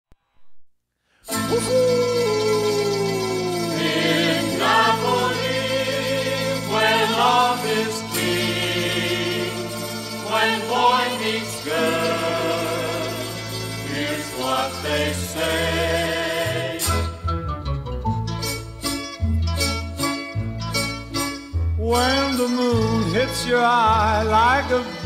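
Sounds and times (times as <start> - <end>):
music with singing voices: 1.3 - 25.0.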